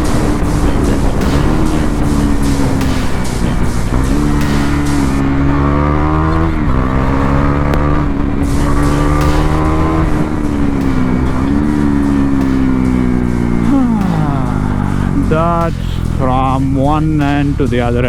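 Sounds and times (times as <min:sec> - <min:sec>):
motorcycle engine revving high: 0:00.0 - 0:18.0.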